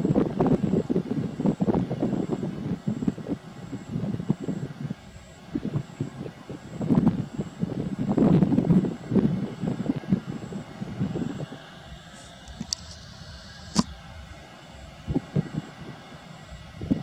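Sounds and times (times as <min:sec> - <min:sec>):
jet airliner engine taxiing: 0:00.0 - 0:17.0
wind buffeting microphone: 0:00.0 - 0:17.0.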